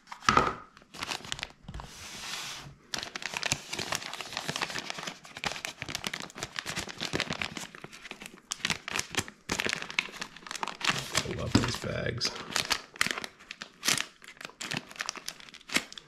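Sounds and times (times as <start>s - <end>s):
plastic bag crinkling: 0.9s - 1.6s, 2.9s - 16.0s.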